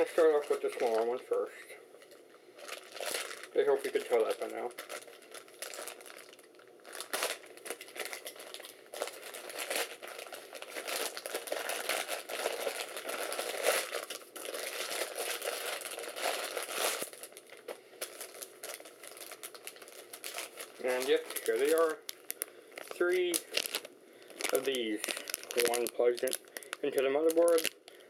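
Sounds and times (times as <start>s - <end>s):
packing material crinkling: 0.0s - 28.0s.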